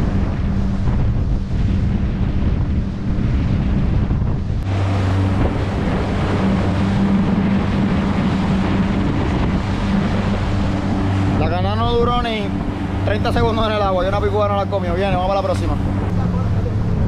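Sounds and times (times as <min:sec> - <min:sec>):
outboard motors humming: 0:00.0 - 0:17.0
rush of boat wake: 0:00.0 - 0:17.0
wind buffeting the microphone: 0:00.0 - 0:17.0.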